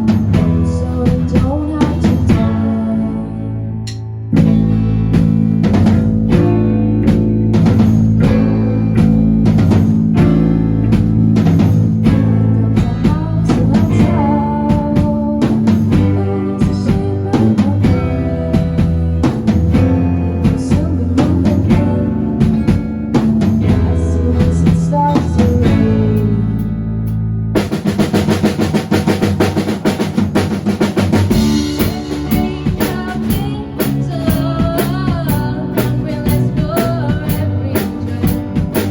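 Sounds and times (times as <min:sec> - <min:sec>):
instrumental band playing: 0:03.9 - 0:38.9.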